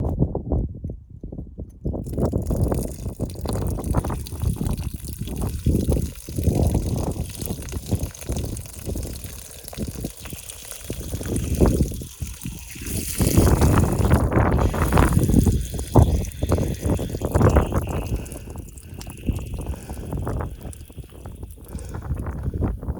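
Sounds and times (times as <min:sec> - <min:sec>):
wind buffeting microphone: 0:00.0 - 0:22.9
urine stream hissing on ground: 0:02.0 - 0:22.7.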